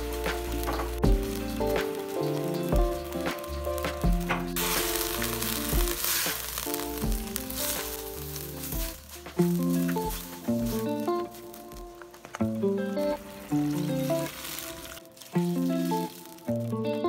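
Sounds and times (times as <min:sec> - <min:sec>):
chicken sizzling in a wok: 0:00.0 - 0:11.6, 0:12.6 - 0:17.0
background music: 0:00.0 - 0:17.0.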